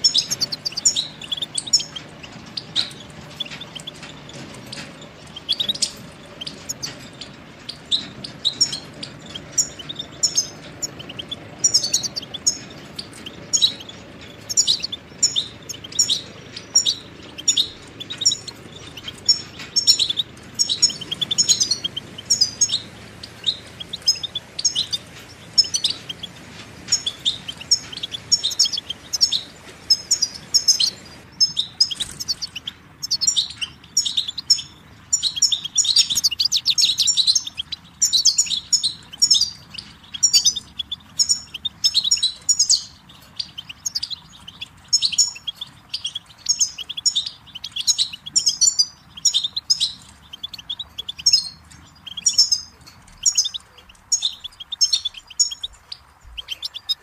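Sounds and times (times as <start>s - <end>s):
goldfinch twittering song: 0.0s - 57.0s.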